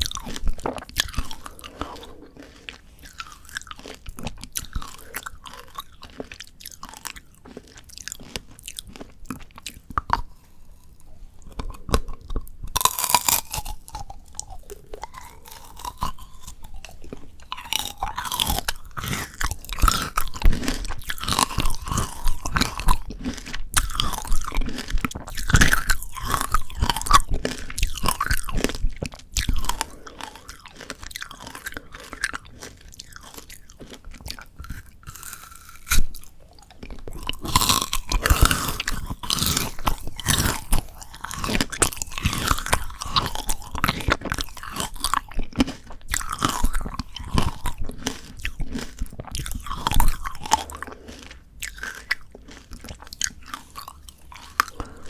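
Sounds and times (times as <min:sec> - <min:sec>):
candy shell crunching: 0:00.0 - 0:55.0
wet chewing: 0:00.0 - 0:55.0.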